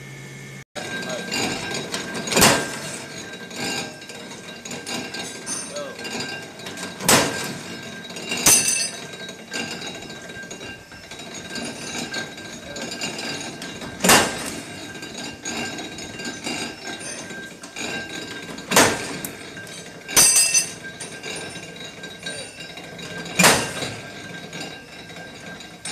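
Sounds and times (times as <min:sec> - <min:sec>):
metallic clanks: 0:00.8 - 0:25.9.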